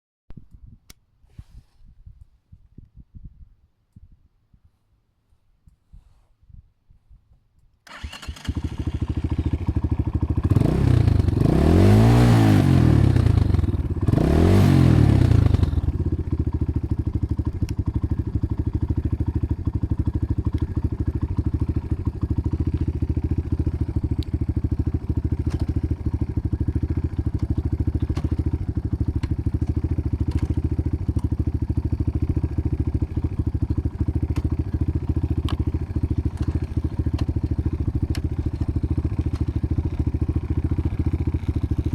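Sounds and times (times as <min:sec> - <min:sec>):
dirt bike engine revving and idling: 0:07.9 - 0:41.9.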